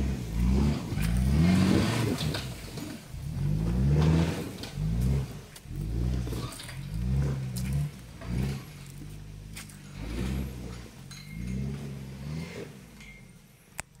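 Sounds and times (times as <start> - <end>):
truck engine revving: 0.0 - 13.2.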